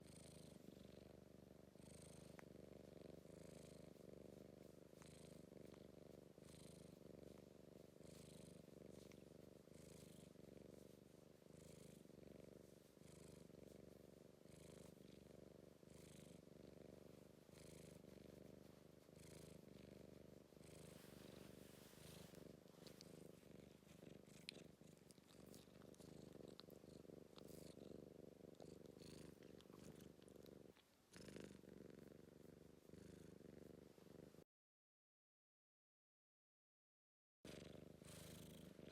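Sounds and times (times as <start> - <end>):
cat purring: 0.0 - 34.5, 37.5 - 38.9.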